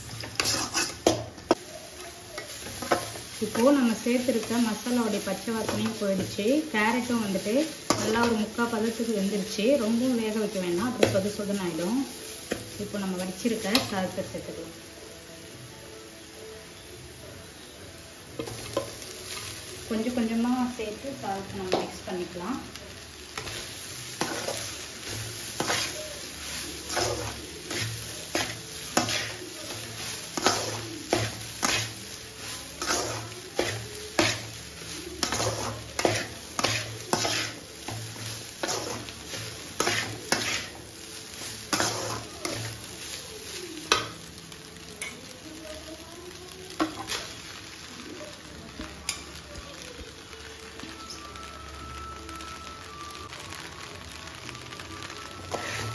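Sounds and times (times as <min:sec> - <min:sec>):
pan sizzling: 0:00.0 - 0:55.9.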